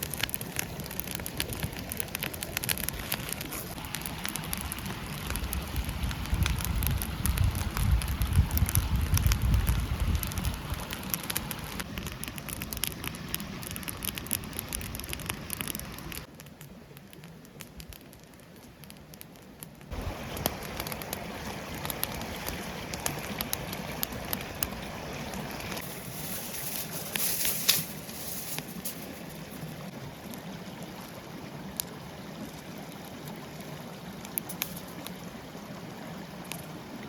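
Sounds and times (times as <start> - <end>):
campfire hissing and crackling: 0.0 - 37.0.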